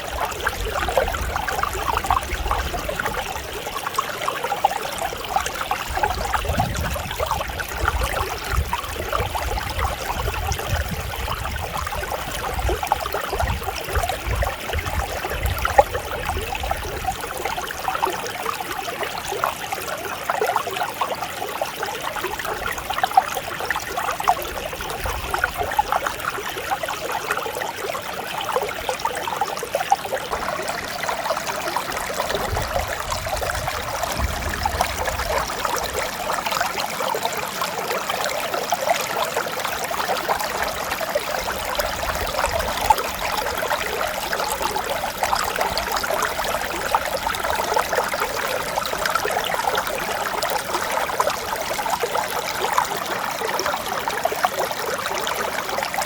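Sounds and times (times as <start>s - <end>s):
stream flowing water: 0.0s - 56.0s.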